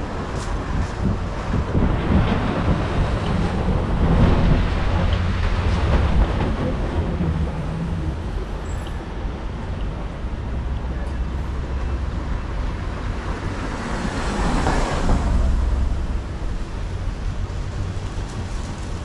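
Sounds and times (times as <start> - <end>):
rumble of passing cars: 0.0 - 19.0.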